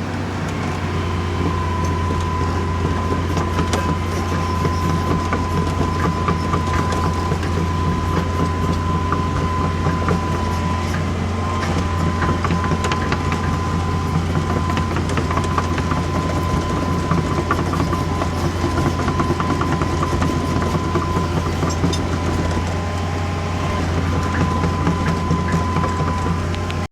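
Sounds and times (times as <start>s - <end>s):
constant high whine: 0.0s - 26.9s
excavator diesel engine running: 0.0s - 26.9s.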